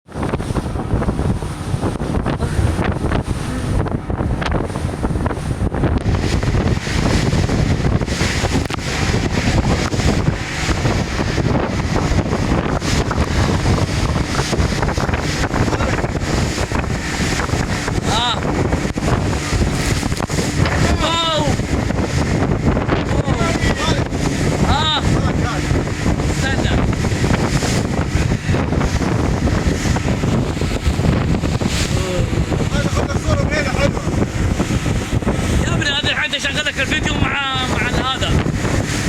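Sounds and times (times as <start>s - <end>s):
rushing sea water: 0.0s - 39.0s
wind buffeting microphone: 0.0s - 39.0s.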